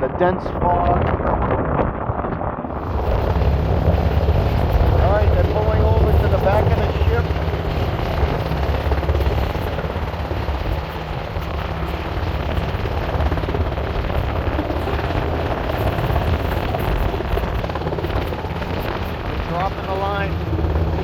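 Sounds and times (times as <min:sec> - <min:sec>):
helicopter rotors beating: 0:00.0 - 0:21.0
wind rushing across microphone: 0:00.0 - 0:21.0.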